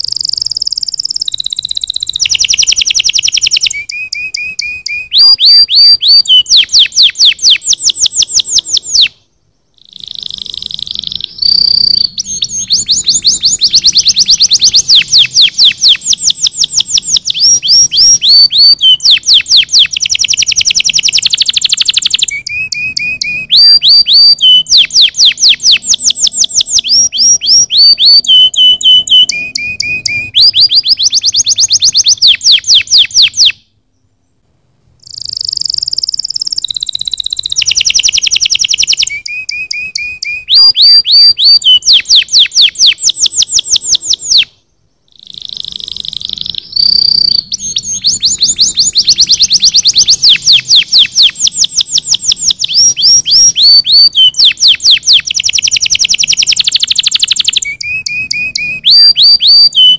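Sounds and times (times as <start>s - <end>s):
canary singing: 0.0s - 34.1s, 35.0s - 59.9s.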